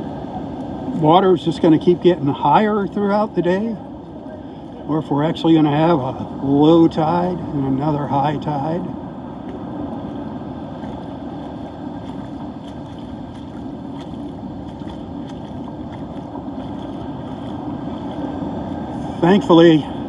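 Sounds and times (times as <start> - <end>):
muffled wind and surf: 0.0 - 20.0.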